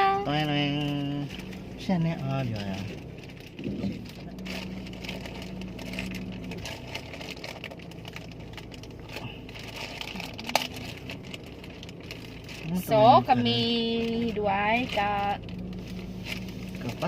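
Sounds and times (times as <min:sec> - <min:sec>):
vehicle humming: 0:00.0 - 0:17.0
small clicks and rattles: 0:00.4 - 0:17.0.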